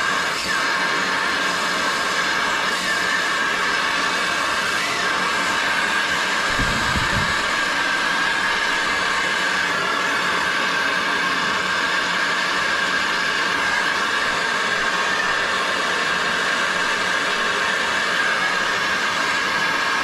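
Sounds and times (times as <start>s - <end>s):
soldering torch hissing: 0.0s - 20.0s.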